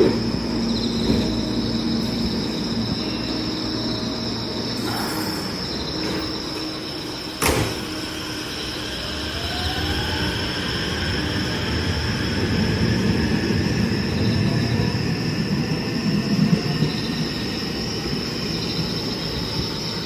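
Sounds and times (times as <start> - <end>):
electric train equipment hum: 0.0 - 20.0.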